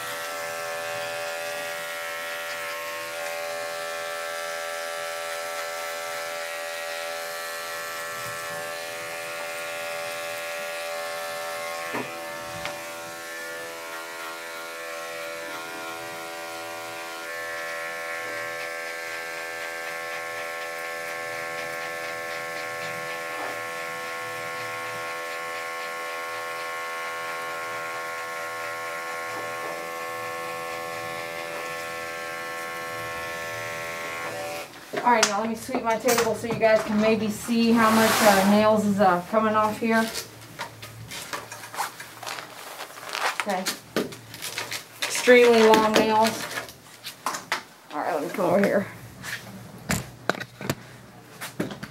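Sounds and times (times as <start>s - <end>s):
electric dog clippers running: 0.0s - 46.8s.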